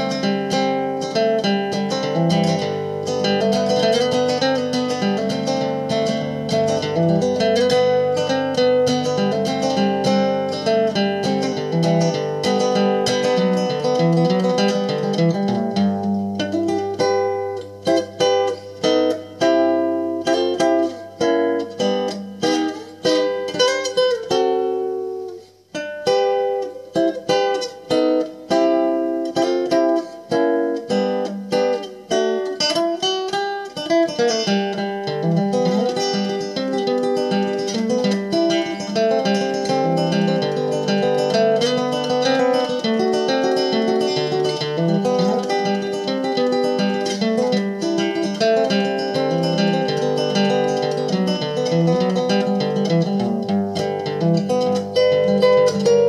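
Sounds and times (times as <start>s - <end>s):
fingerstyle acoustic guitar: 0.0s - 56.0s.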